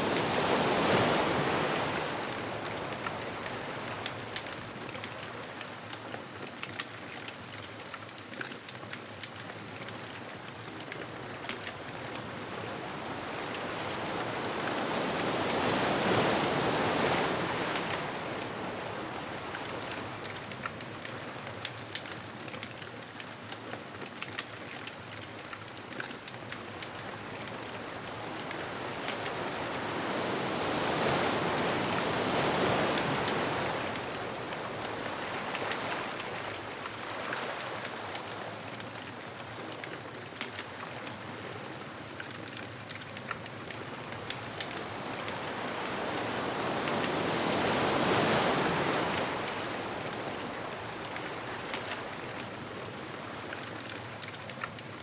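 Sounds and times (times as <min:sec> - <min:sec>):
ocean waves on a beach: 0:00.0 - 0:55.0
bonfire crackling and popping: 0:01.4 - 0:14.1, 0:19.3 - 0:29.3, 0:32.3 - 0:47.7, 0:48.3 - 0:55.0.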